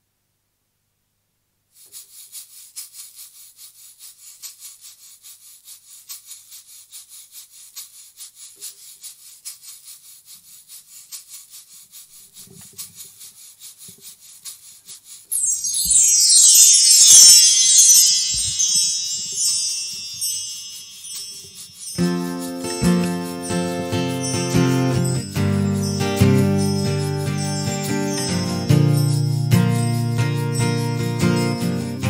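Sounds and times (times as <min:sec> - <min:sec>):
metal tube shaker rattling: 0:01.9 - 0:31.8.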